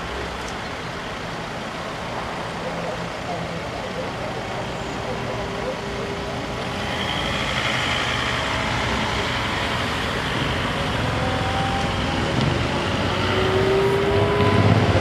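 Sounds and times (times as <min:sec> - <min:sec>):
car engines passing: 0:00.0 - 0:15.0
tyre noise on road: 0:00.0 - 0:15.0.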